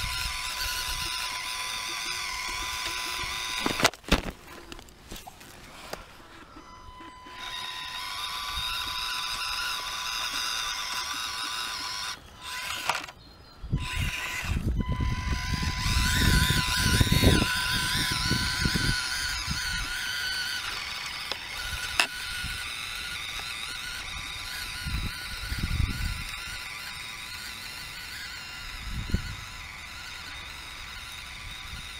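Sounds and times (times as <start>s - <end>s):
small electric motor whining: 0.0s - 31.9s.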